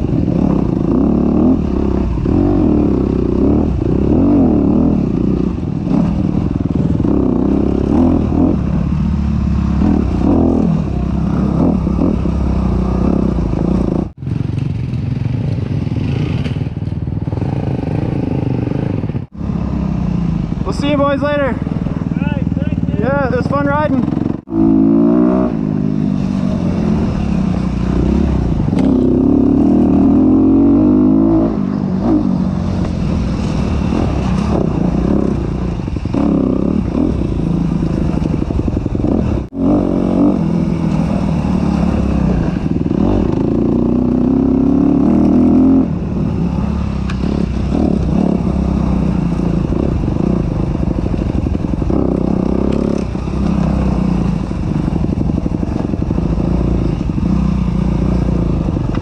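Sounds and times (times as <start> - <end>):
dirt bike engine revving: 0.0 - 14.2, 15.1 - 59.0.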